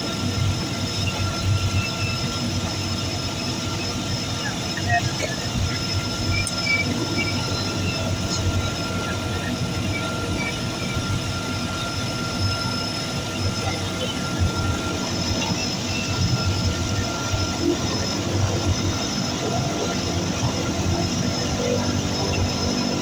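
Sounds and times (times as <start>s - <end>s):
high engine whine: 0.0s - 23.0s
turboprop engines rumbling: 0.0s - 23.0s.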